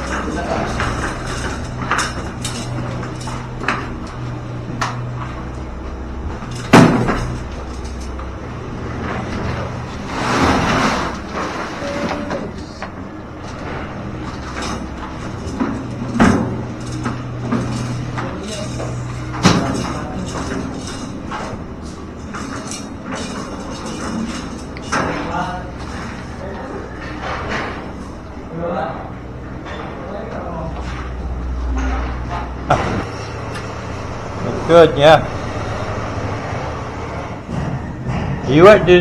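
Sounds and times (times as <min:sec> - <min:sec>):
knocks and clatters: 0:00.0 - 0:28.4, 0:35.3 - 0:38.6.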